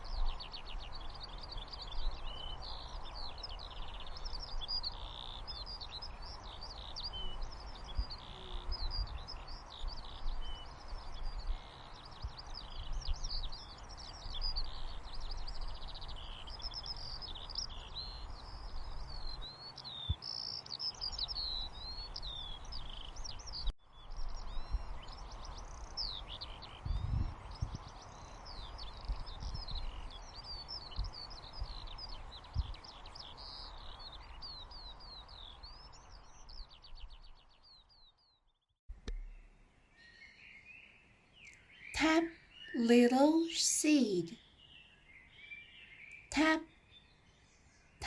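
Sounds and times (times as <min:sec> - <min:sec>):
small birds twittering: 0:00.0 - 0:37.9, 0:39.1 - 0:42.8, 0:44.4 - 0:48.0.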